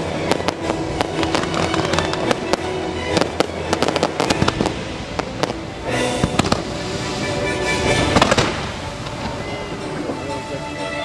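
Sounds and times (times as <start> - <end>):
fireworks bangs and crackles: 0.0 - 10.2
hissing rush: 0.0 - 11.0
loud show music: 0.0 - 11.0.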